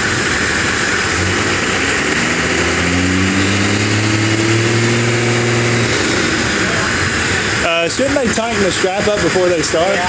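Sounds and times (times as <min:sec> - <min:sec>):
diesel truck engine revving: 0:00.0 - 0:09.5.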